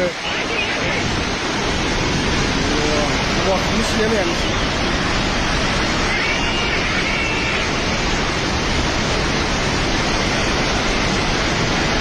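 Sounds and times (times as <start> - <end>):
flood river rushing: 0.0 - 12.0.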